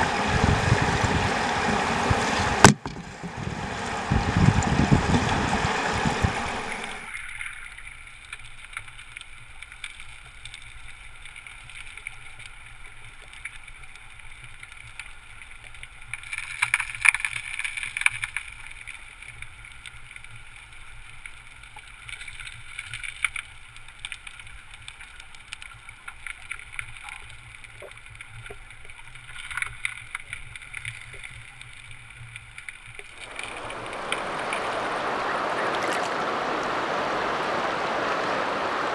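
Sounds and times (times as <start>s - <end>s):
muffled underwater river rush: 0.0s - 16.2s, 23.4s - 38.9s
underwater crackles and clicks: 0.0s - 36.9s
fuller rush of water: 0.0s - 38.9s.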